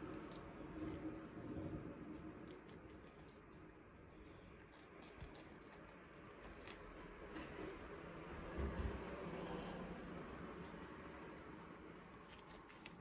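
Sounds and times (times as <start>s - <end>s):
guinea pigs chewing and crunching: 0.0s - 13.0s.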